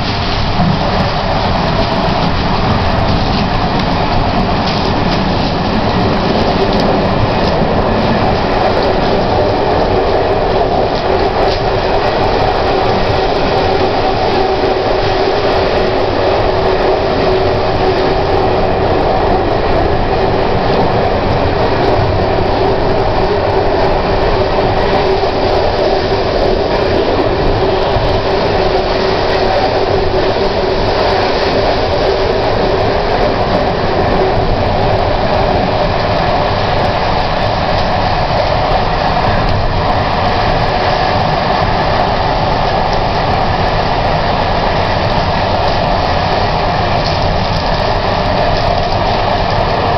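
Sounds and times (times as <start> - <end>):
metro train rumbling on track: 0.0 - 49.9.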